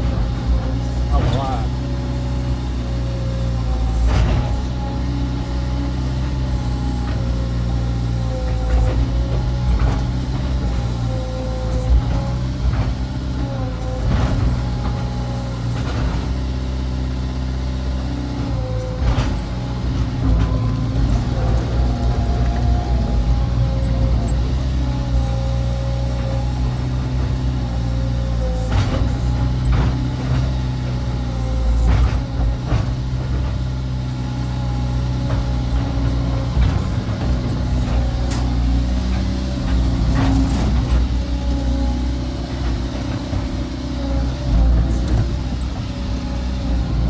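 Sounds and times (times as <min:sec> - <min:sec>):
excavator diesel engine: 0:00.0 - 0:47.0
hydraulic whine: 0:00.0 - 0:47.0.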